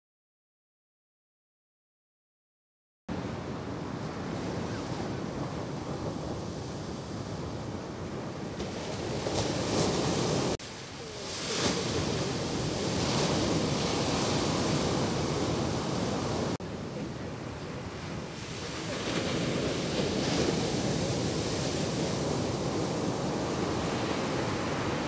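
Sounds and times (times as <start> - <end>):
ocean surf breaking: 3.1 - 25.0.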